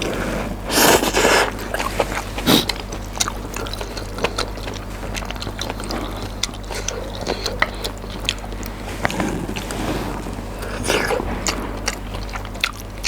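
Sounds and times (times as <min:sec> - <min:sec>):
low electrical hum: 0:00.0 - 0:13.0
wet noodle chewing: 0:00.0 - 0:13.0.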